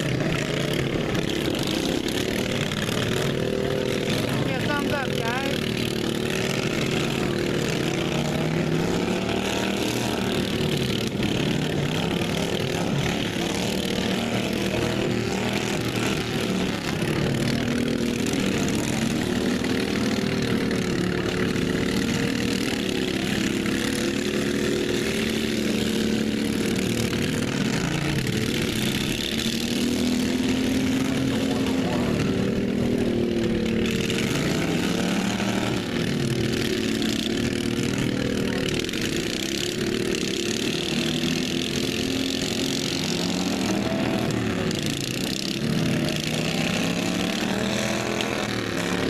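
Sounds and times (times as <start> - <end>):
racing lawn mower engines revving: 0.0 - 49.0.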